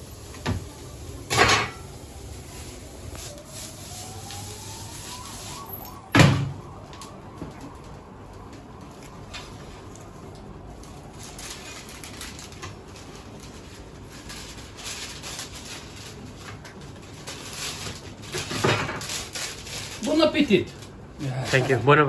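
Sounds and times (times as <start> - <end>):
faint clicks and rustles: 0.0 - 21.6
restaurant background noise: 0.0 - 22.0.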